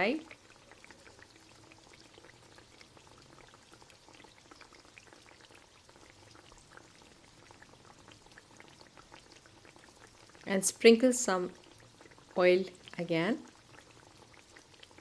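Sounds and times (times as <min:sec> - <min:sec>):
meat sizzling in a pan: 0:00.0 - 0:15.0
small crackles of frying: 0:00.0 - 0:15.0.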